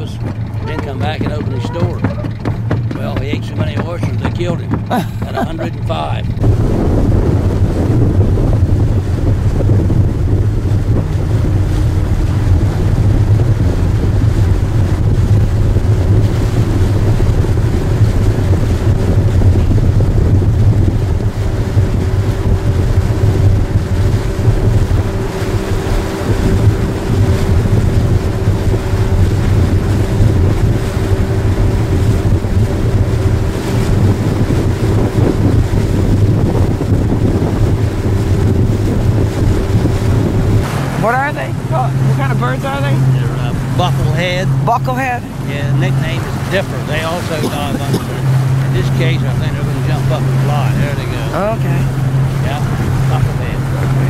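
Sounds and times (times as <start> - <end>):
boat engine running: 0.0 - 54.0
steady hum: 0.0 - 54.0
wind buffeting microphone: 0.0 - 54.0.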